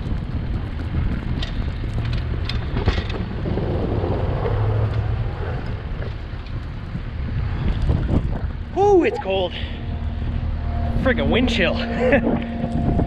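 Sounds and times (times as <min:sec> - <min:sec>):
blizzard wind buffeting microphone: 0:00.0 - 0:13.0.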